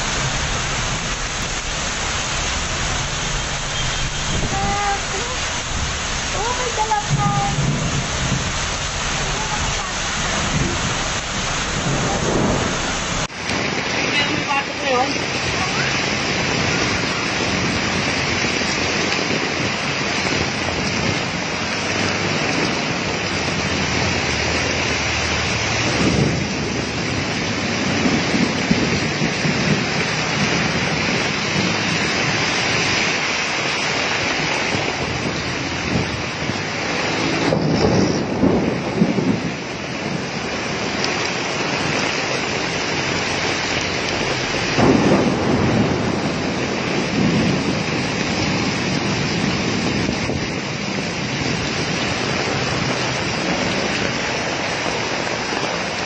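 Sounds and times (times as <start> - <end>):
heavy rain and hail pouring: 0.0 - 56.0
low rumbles: 0.0 - 56.0.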